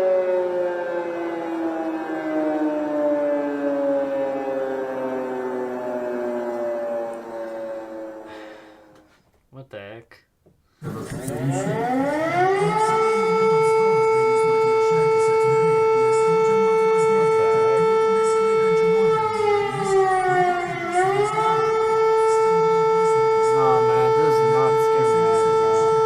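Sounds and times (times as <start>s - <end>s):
civil defense siren: 0.0s - 9.2s, 10.8s - 26.0s.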